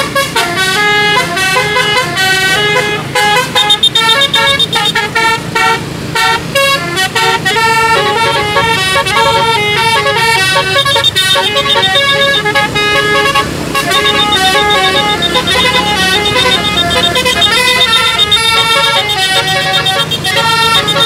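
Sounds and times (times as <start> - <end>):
musical air horn melody: 0.0 - 21.0.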